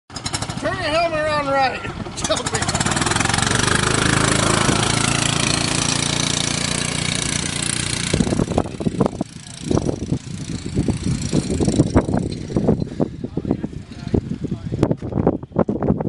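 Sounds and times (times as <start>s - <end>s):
golf cart engine running: 0.1s - 14.8s
low rumbles: 0.5s - 16.0s.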